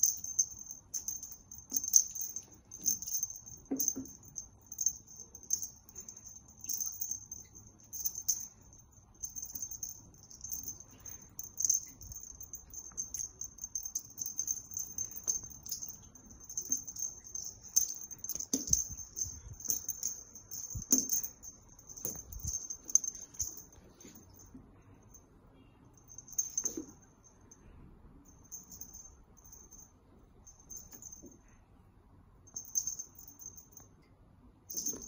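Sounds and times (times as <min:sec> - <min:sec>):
small bell jingling: 0:00.0 - 0:31.4, 0:32.5 - 0:33.9, 0:34.7 - 0:35.0.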